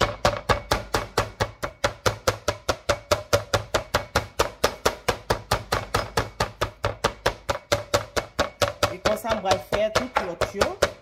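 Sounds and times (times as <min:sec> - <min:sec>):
meat mallet pounding: 0:00.0 - 0:11.0.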